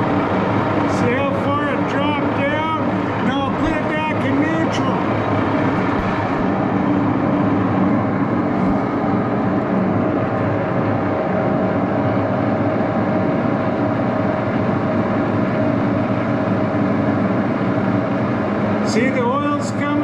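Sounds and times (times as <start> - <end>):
lathe gears running noisily: 0.0 - 20.0.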